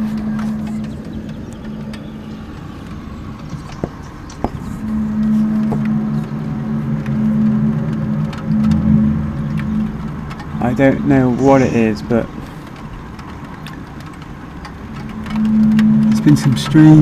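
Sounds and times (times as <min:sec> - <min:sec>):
low drone of pitched tones: 0:00.0 - 0:13.4, 0:14.4 - 0:17.0.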